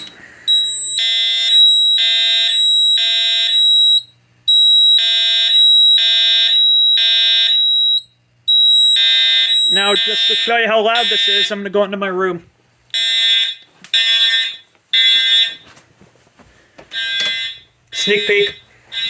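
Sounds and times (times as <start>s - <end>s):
fire alarm horn blasts: 0.5s - 12.0s, 12.9s - 15.7s, 16.9s - 19.0s.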